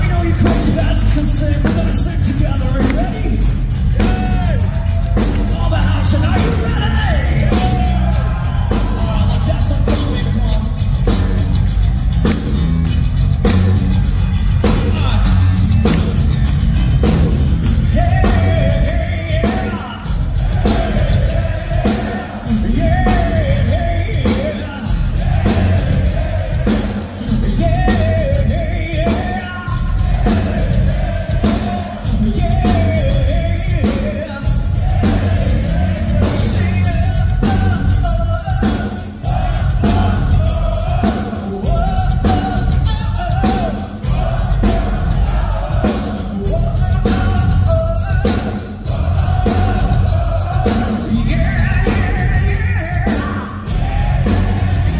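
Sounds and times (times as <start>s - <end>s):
man singing lead vocals: 0.0s - 11.2s, 17.8s - 54.9s
rock band playing live: 0.0s - 54.9s.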